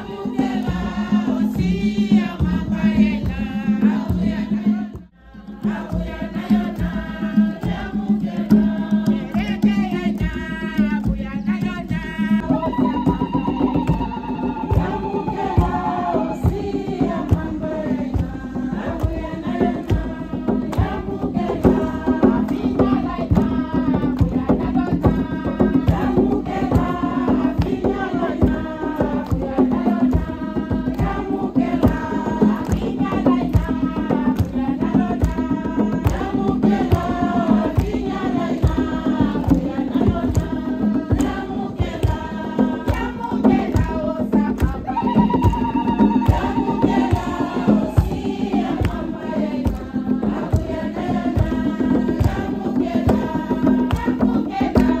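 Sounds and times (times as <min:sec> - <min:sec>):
choir singing a hymn: 0:00.0 - 0:55.0
percussion: 0:00.0 - 0:55.0
hand-clapping: 0:06.7 - 0:27.0, 0:27.6 - 0:55.0.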